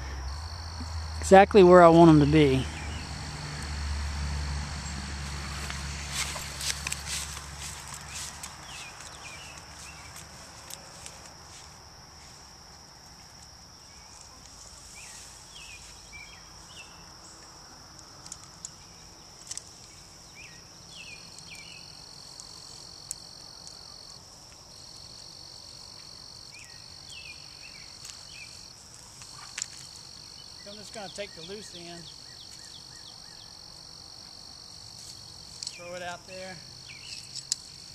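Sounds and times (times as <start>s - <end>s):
insects trilling: 0.0s - 37.9s
lower insect trill: 0.0s - 37.9s.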